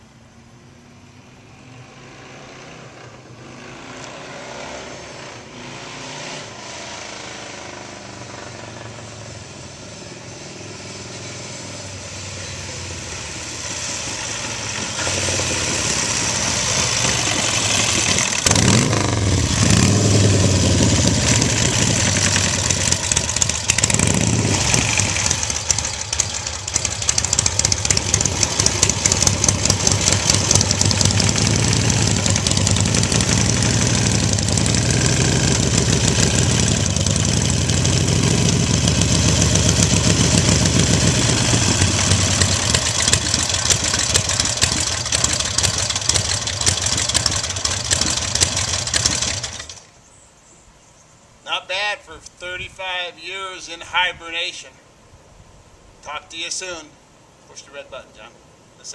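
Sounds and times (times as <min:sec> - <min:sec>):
motorcycle engine revving and idling: 0:01.5 - 0:49.9.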